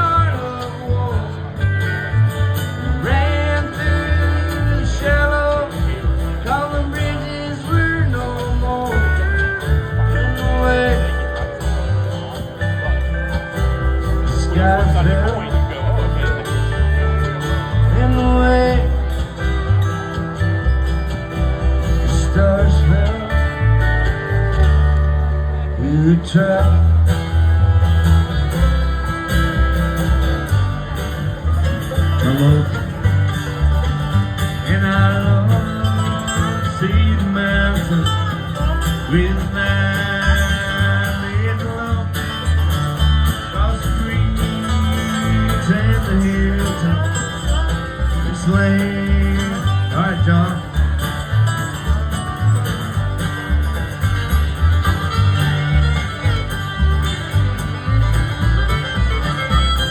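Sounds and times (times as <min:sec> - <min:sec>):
bass line: 0:00.0 - 0:59.9
plucked guitar notes: 0:00.0 - 0:59.9.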